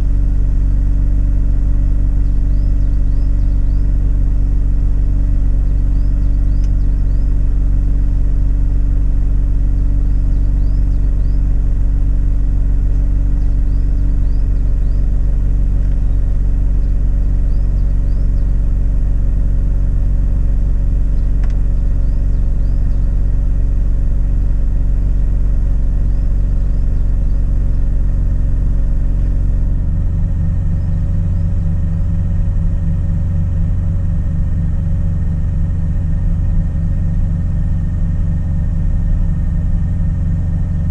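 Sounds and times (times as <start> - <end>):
rotary engine idling and misfiring: 0.0 - 40.9.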